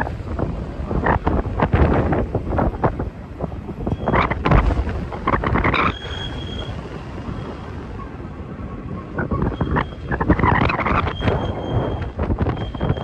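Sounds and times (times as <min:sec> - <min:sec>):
freight train rumbling: 0:00.0 - 0:13.0
wind buffeting microphone: 0:00.0 - 0:13.0.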